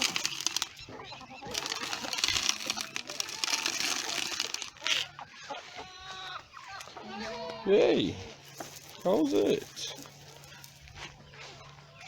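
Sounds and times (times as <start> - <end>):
chicken feed rustling and pouring: 0.0 - 7.4, 8.1 - 12.0.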